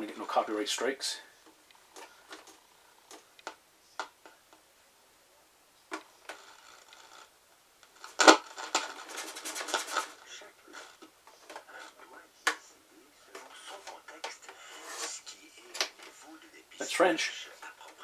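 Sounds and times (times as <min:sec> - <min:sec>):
radio clicks and crackles: 0:00.0 - 0:04.7, 0:05.4 - 0:18.0
dense crackling static: 0:00.0 - 0:18.0.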